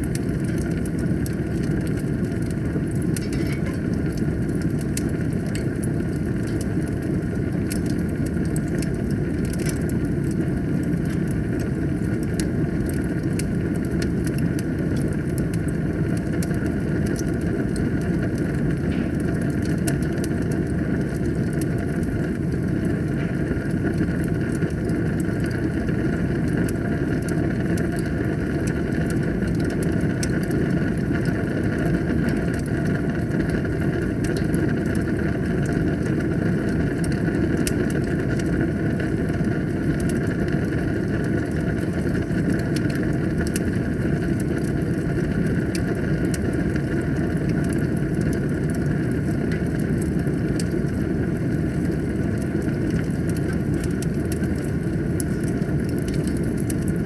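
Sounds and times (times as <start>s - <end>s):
burning wood crackling and popping: 0.0s - 57.0s
low roar of flames: 0.0s - 57.0s.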